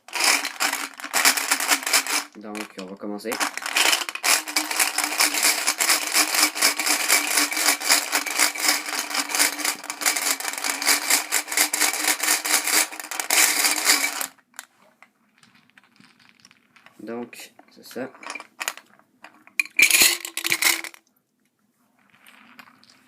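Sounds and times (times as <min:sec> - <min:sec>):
marbles rattling in plastic toy: 0:00.0 - 0:14.4, 0:15.3 - 0:21.0, 0:22.1 - 0:23.0.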